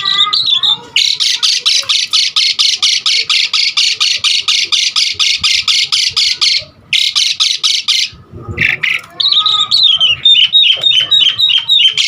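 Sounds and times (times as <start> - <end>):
starling calling harsh rasping notes: 0.0 - 12.0.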